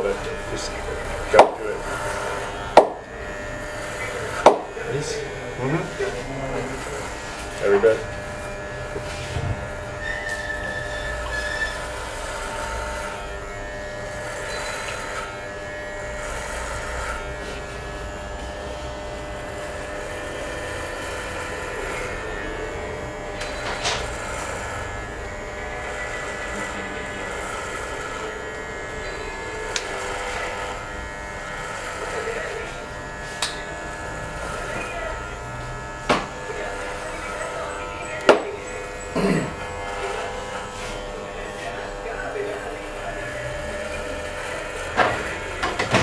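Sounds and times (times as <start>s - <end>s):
hair clippers buzzing: 0.0s - 46.0s.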